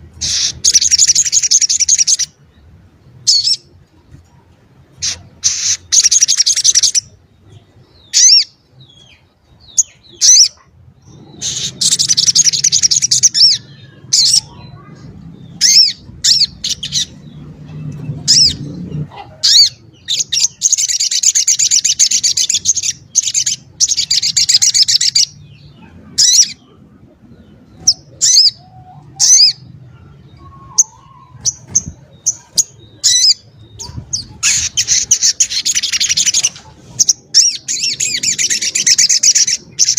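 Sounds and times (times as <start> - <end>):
bird chattering song: 0.0 - 2.4, 4.9 - 39.9.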